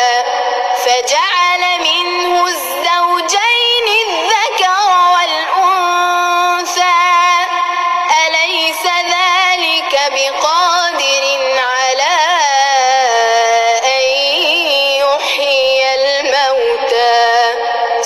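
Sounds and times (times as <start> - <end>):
person chanting melodically: 0.0 - 18.0.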